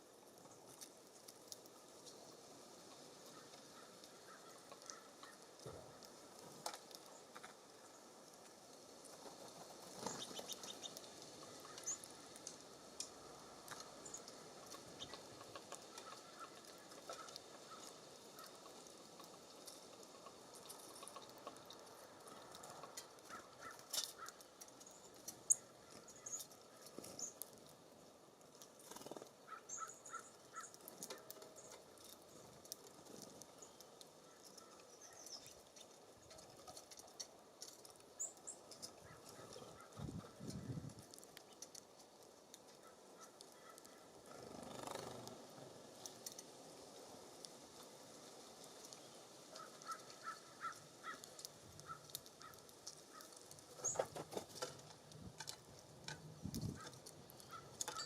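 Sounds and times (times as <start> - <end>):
songbirds chirping: 0.1 - 58.0.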